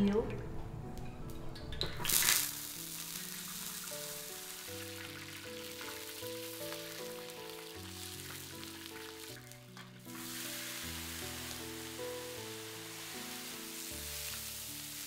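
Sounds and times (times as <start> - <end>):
background music with simple melody: 0.0 - 15.0
spices sizzling in hot oil: 2.1 - 15.0.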